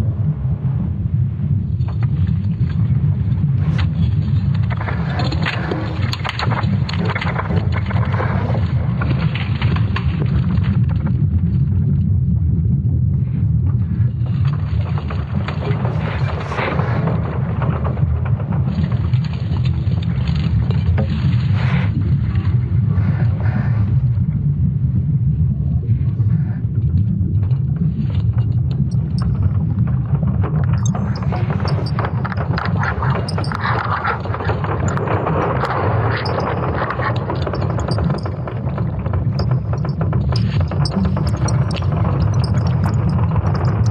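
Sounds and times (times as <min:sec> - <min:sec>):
deep rumble: 0:00.0 - 0:43.9.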